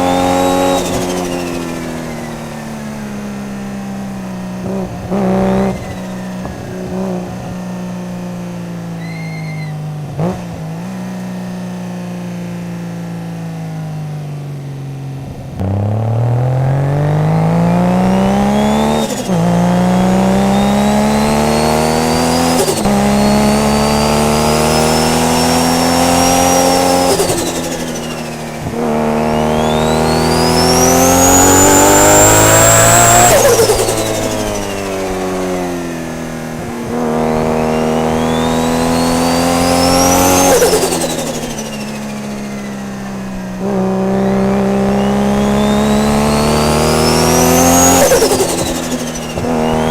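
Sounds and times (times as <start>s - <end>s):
car engine under full throttle: 0.0s - 49.9s
high whine with revs: 0.0s - 49.9s.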